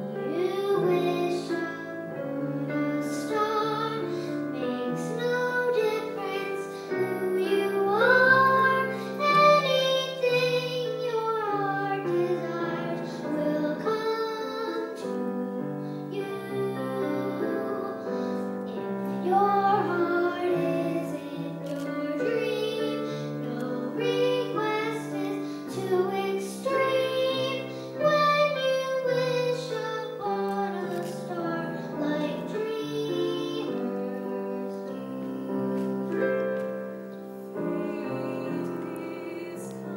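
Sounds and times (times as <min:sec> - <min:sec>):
girl singing: 0:00.0 - 0:36.6, 0:37.5 - 0:39.9
piano accompaniment: 0:00.0 - 0:39.9.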